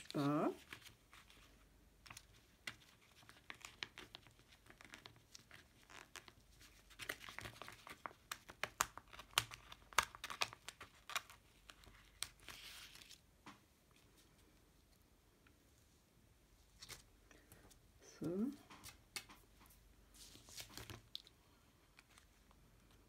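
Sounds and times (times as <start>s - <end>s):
sticker sheets rustling and crackling: 0.0s - 15.0s, 16.8s - 23.0s.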